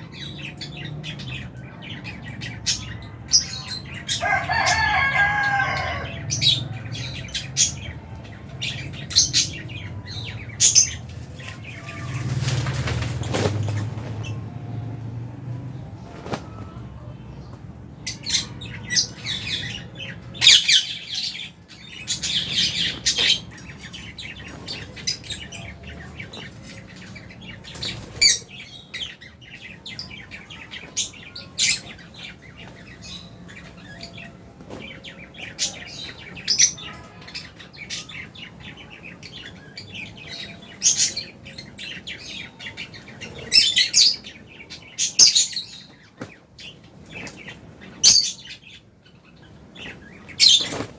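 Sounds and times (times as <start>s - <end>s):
birds chirping: 0.0s - 50.9s
birds squawking: 1.9s - 14.4s, 18.0s - 50.9s.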